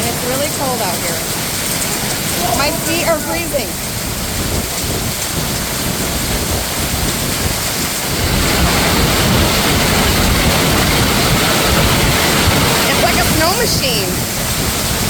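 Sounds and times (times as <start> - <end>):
heavy hail falling: 0.0 - 15.0.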